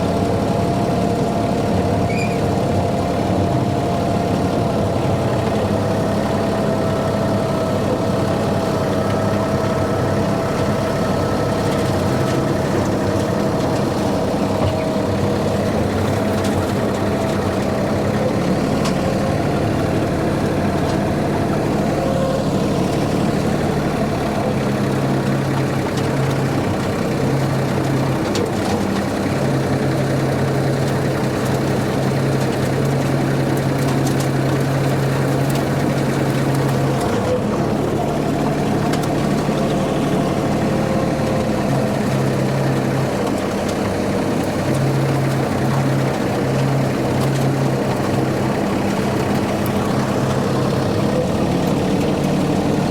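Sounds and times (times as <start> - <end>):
rotary mower cutting weeds: 0.0 - 52.9
tractor engine running: 0.0 - 52.9.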